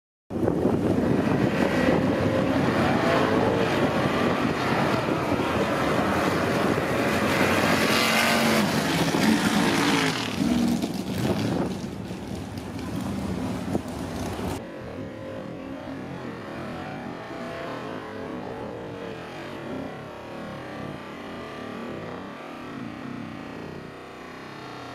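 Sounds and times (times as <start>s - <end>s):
truck engines revving hard: 0.4s - 24.9s.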